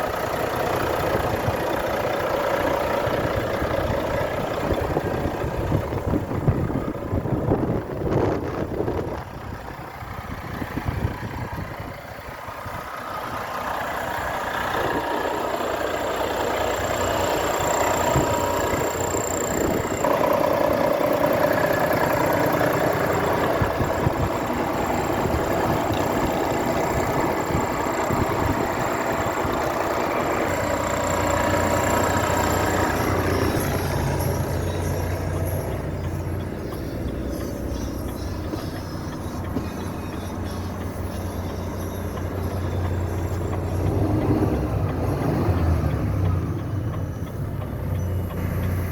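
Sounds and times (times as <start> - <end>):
truck diesel engine running: 0.0 - 48.9.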